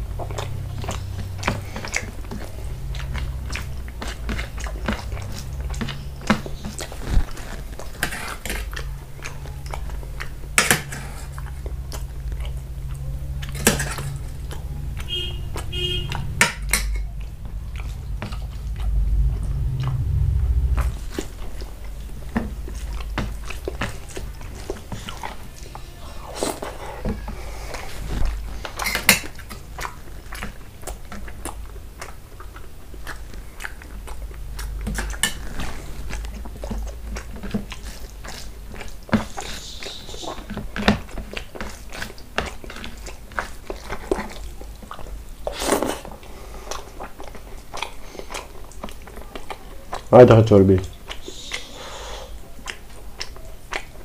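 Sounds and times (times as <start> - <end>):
low steady hum: 0.0 - 54.0
person chewing with wet mouth sounds: 0.0 - 54.0.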